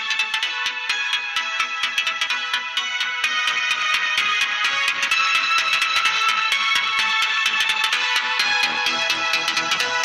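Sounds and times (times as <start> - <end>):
electronic music through small speakers: 0.0 - 10.0.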